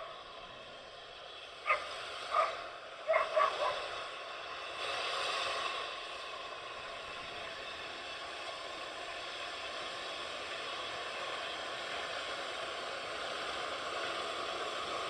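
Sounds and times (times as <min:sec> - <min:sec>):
broad hiss of steam: 0:00.0 - 0:15.0
steam locomotive getting under way: 0:00.0 - 0:15.0.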